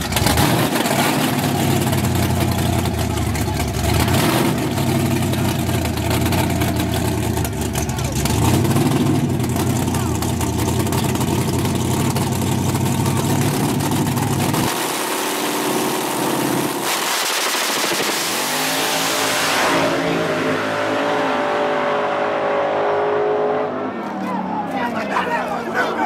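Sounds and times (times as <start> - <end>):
drag car engine running loud: 0.0 - 25.0
drag racing engines at full throttle: 0.0 - 26.0.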